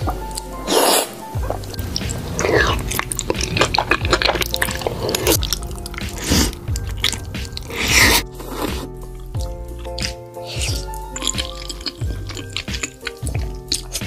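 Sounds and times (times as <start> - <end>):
pasta slurping and chewing: 0.1 - 14.0.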